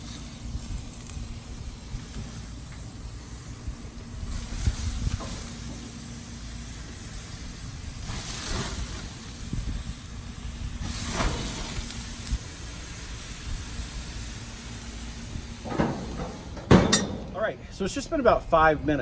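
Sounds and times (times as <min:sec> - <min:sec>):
corn husks hissing and sizzling: 0:00.0 - 0:19.0
gas grill rumble: 0:00.0 - 0:19.0.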